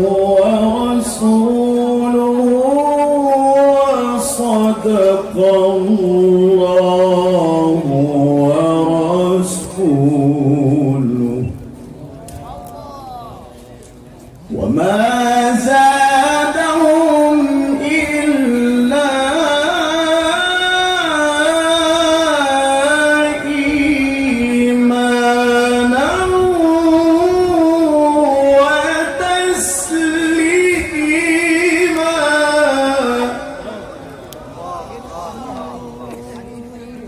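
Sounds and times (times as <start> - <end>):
man reciting melodically: 0.0 - 11.8, 14.4 - 37.0.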